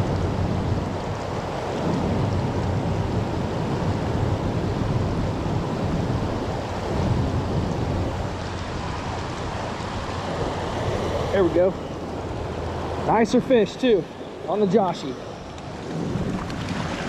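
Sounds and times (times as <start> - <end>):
creek water over small waterfall: 0.0 - 17.0.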